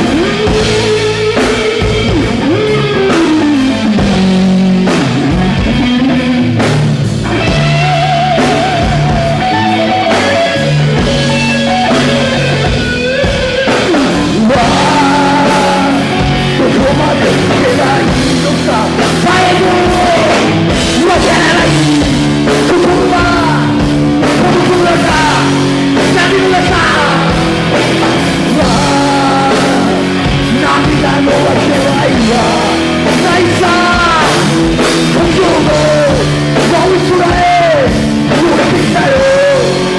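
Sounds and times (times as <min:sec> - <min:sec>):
rock band playing: 0:00.0 - 0:39.9
person singing: 0:07.2 - 0:39.9.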